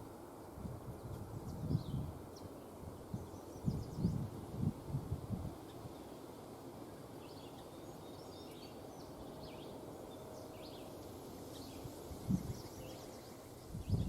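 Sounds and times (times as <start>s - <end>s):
low background hiss: 0.0s - 14.0s
songbird chirps: 0.9s - 4.8s, 5.5s - 14.0s.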